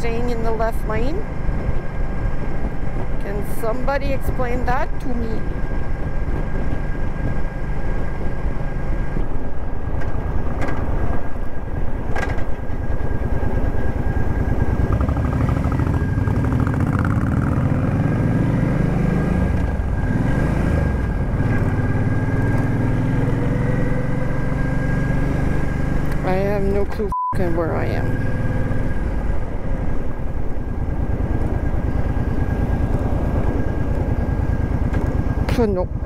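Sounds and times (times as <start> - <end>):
motorcycle engine running: 0.0 - 26.8, 27.7 - 36.0.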